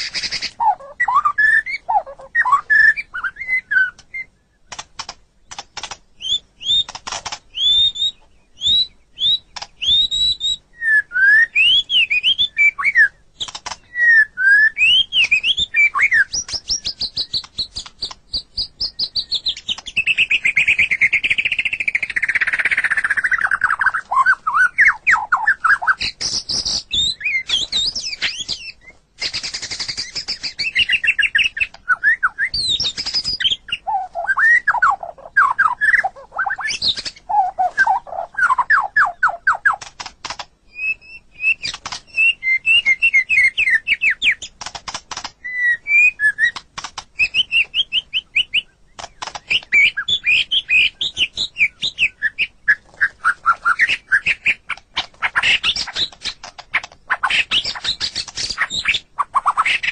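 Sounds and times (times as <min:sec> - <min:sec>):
bird singing whistled notes: 0:00.0 - 0:04.8, 0:06.2 - 0:39.8, 0:40.7 - 0:44.5, 0:45.4 - 0:46.6, 0:47.2 - 0:56.4.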